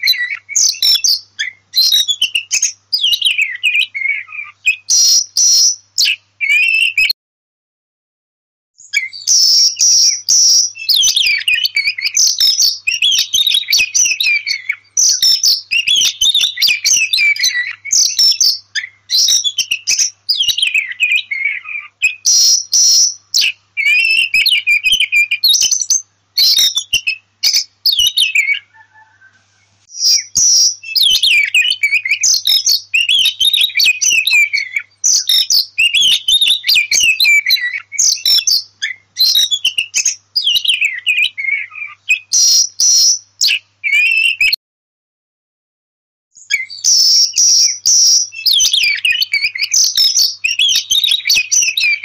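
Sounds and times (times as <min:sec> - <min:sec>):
bird singing whistled phrases: 0:00.0 - 0:07.2, 0:08.8 - 0:44.6, 0:46.4 - 0:52.0.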